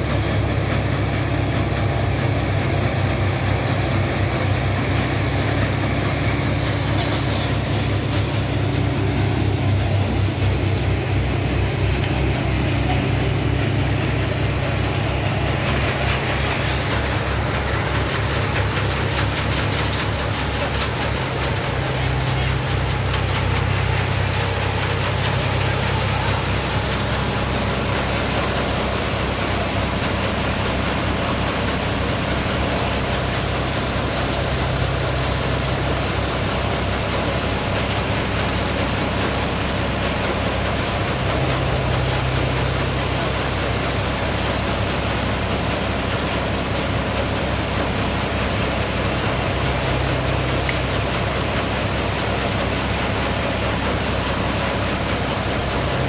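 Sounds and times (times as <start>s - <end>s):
thresher drum and blower noise: 0.0s - 56.0s
tractor engine drone: 0.0s - 56.0s.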